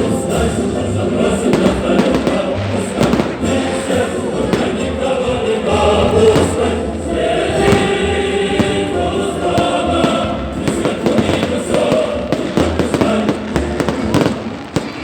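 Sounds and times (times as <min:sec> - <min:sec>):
choir singing long notes: 0:00.0 - 0:15.0
fireworks bangs and crackles: 0:00.0 - 0:15.0
music: 0:00.0 - 0:15.0.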